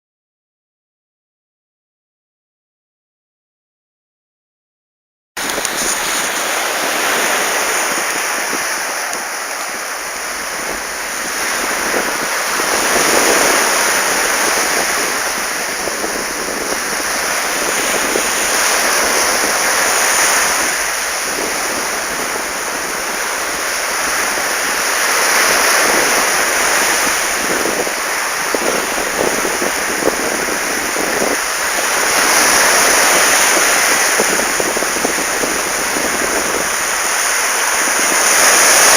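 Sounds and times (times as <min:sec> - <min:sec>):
waves breaking on a beach: 0:05.4 - 0:38.9.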